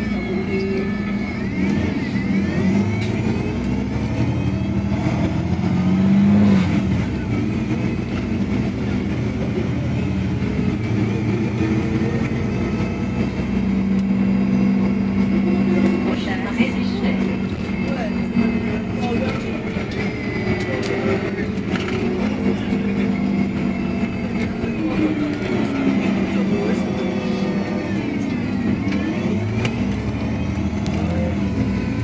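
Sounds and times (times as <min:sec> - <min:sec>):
bus engine and gearbox whine: 0:00.0 - 0:32.0.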